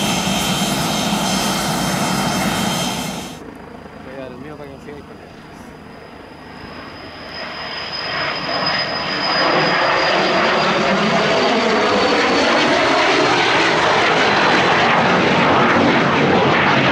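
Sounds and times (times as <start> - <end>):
high jet whine: 0.0 - 16.9
jet engines roaring: 0.0 - 16.9.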